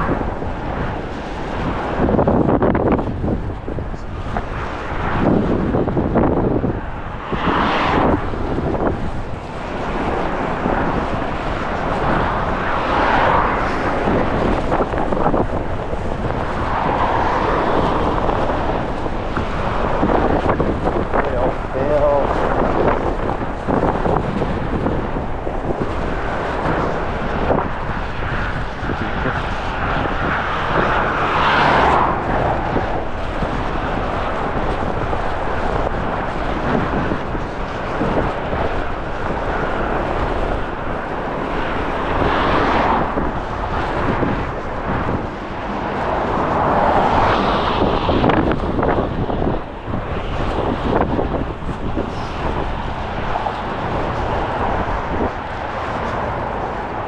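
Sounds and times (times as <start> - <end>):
gusty wind on microphone: 0.0 - 57.0
road traffic noise: 0.0 - 57.0
vehicles passing: 0.0 - 57.0.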